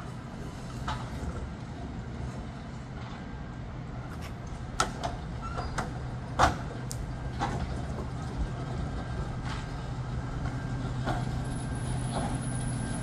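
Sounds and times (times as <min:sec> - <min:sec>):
tram wheels clacking over rail joints: 0:00.5 - 0:13.0.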